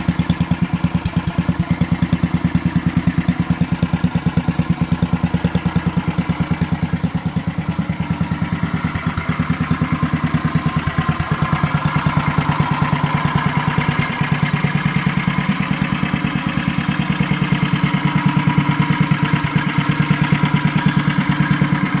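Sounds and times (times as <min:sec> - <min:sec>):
mini bike engine idling: 0:00.0 - 0:22.0.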